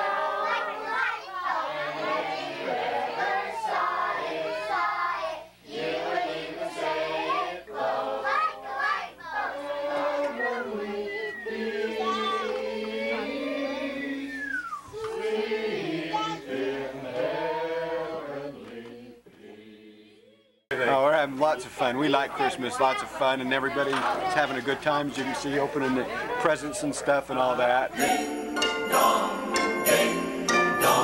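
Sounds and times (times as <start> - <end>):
voices singing and calling out: 0.0 - 31.0.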